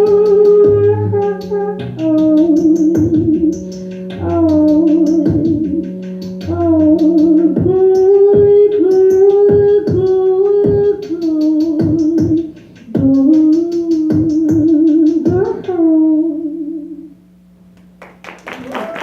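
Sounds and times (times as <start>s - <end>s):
sliding melody with vibrato: 0.0s - 16.8s.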